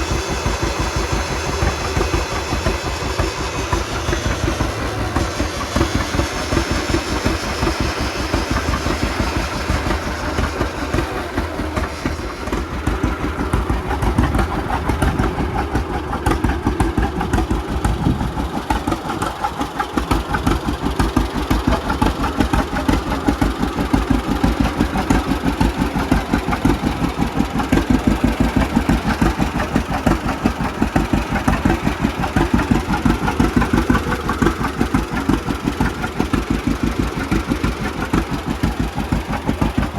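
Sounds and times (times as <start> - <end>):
tractor engine putt-putt: 0.0 - 39.9.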